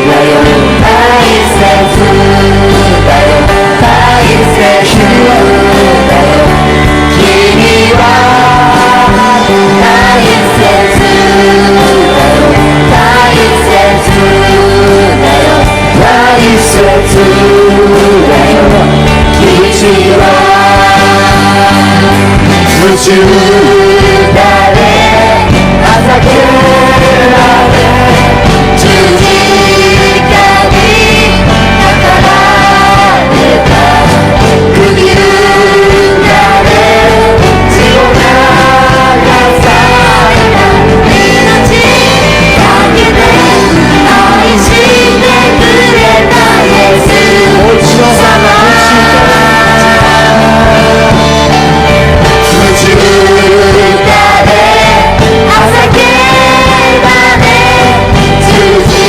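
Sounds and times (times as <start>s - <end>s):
voices singing praise song: 0.0s - 59.0s.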